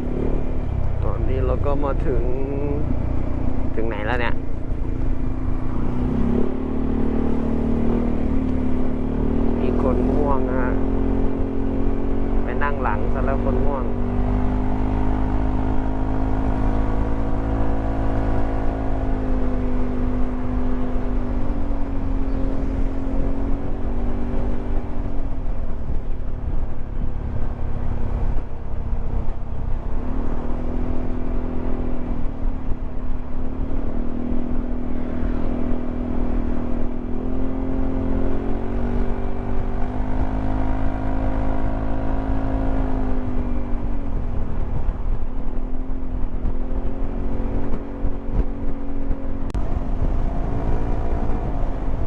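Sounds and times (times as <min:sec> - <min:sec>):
scooter engine droning: 0:00.0 - 0:52.0
wind rumble on microphone: 0:00.0 - 0:52.0.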